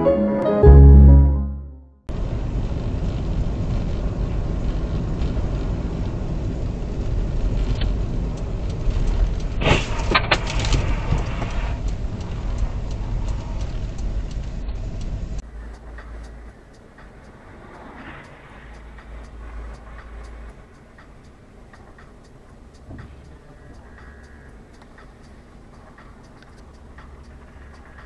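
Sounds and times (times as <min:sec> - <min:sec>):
car engine and tyres rumbling: 0:02.1 - 0:28.0.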